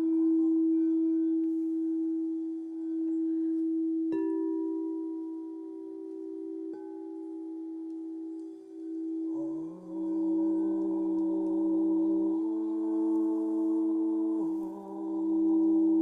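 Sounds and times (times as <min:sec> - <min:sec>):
low singing bowl tone: 0:00.0 - 0:16.0.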